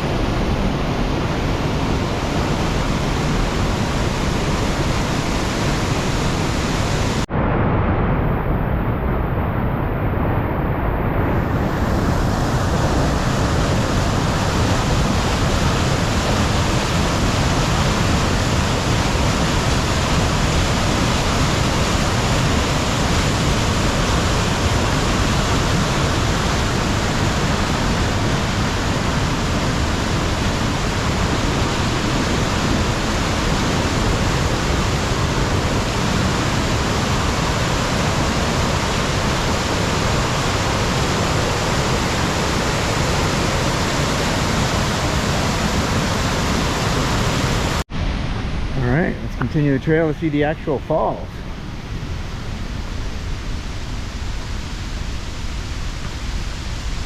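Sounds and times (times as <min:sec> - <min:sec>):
waterfall roaring: 0:00.0 - 0:07.3, 0:10.2 - 0:57.0.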